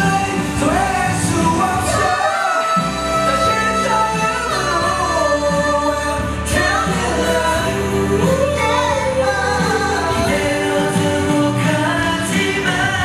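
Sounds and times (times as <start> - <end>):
electric bass: 0.0 - 2.2, 2.8 - 13.0
live band playing: 0.0 - 13.0
man singing into a microphone: 0.0 - 13.0.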